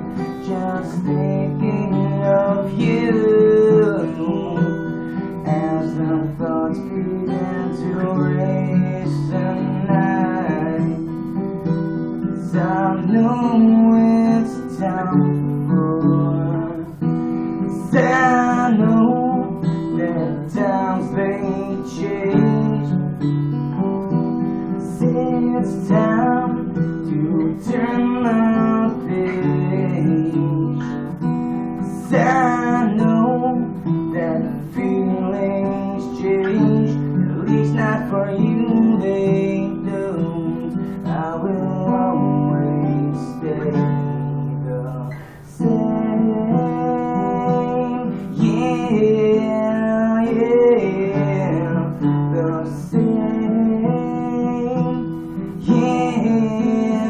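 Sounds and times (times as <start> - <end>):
acoustic guitar strumming chords: 0.0 - 57.0
man singing: 0.0 - 57.0.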